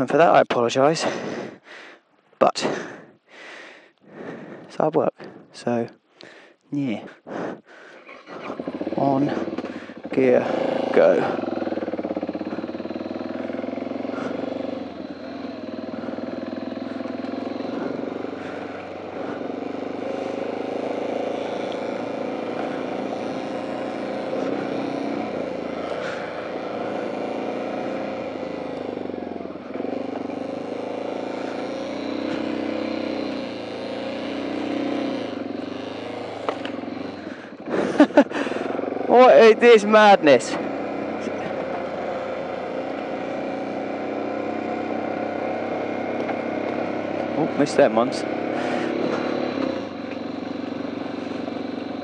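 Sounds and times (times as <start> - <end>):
motorcycle engine running: 6.8 - 52.0.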